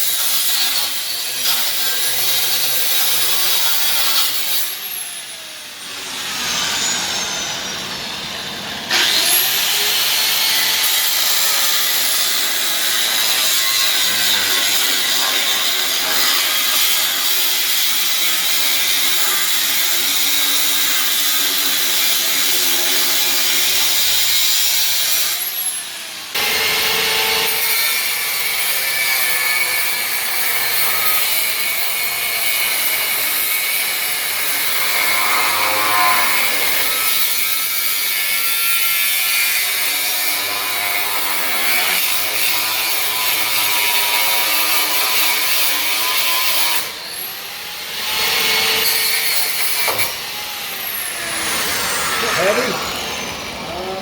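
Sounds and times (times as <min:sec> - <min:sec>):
power tool cutting steel: 0:00.0 - 0:54.0.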